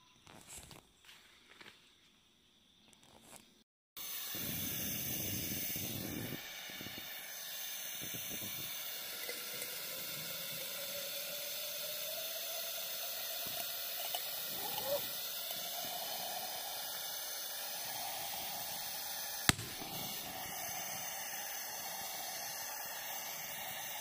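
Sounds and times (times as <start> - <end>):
gas torch hissing: 4.0 - 24.0.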